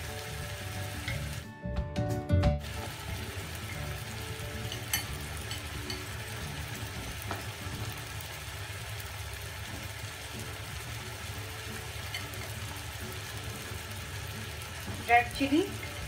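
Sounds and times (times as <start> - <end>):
food sizzling in oil: 0.0 - 1.6, 2.6 - 16.0.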